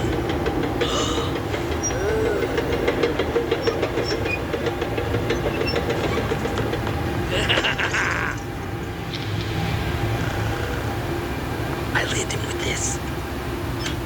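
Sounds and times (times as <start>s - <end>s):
faint clicks from rails: 0.0s - 10.9s, 13.0s - 14.0s
train rumbling into station: 0.0s - 14.0s.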